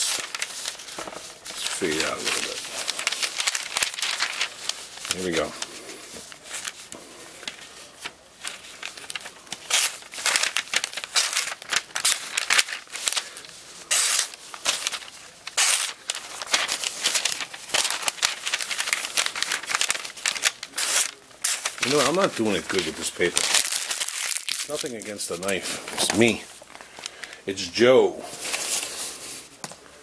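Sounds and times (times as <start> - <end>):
pages crinkling: 0.0 - 30.0.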